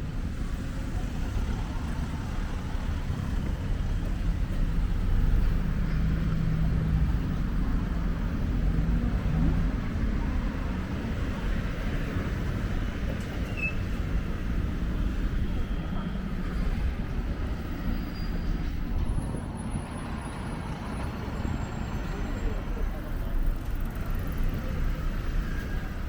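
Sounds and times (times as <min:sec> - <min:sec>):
city background noise: 0:00.0 - 0:26.0.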